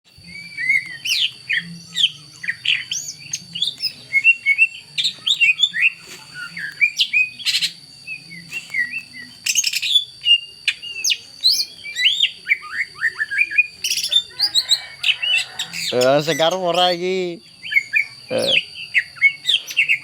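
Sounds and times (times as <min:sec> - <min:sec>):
songbird singing: 0:00.1 - 0:20.0
steady high whine: 0:00.1 - 0:20.0
harsh rattling bird notes: 0:00.3 - 0:20.0.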